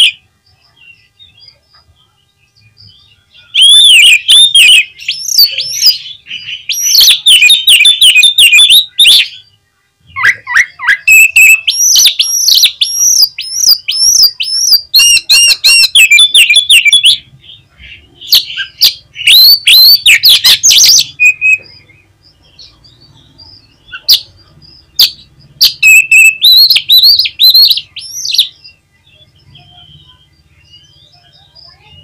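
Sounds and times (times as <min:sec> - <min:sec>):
bird singing whistles and chatter: 0:00.0 - 0:00.2, 0:00.8 - 0:17.3, 0:17.9 - 0:32.0.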